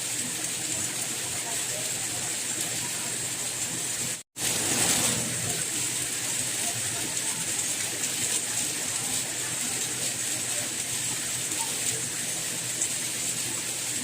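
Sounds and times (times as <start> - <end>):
steady rainfall: 0.0 - 14.0.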